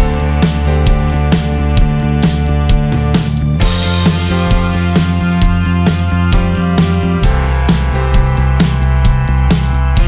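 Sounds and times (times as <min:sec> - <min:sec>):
music with steady beat and bass: 0:00.0 - 0:10.0.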